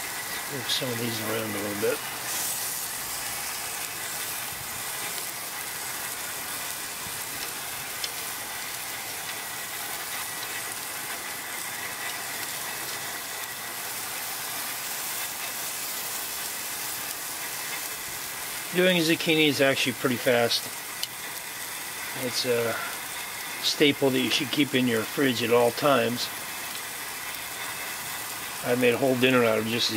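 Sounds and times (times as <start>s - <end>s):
zucchini sizzling on a grill: 0.0s - 29.9s.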